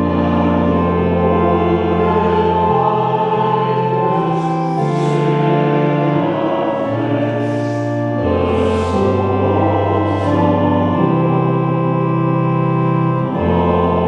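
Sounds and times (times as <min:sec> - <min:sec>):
church organ chords: 0:00.0 - 0:14.0.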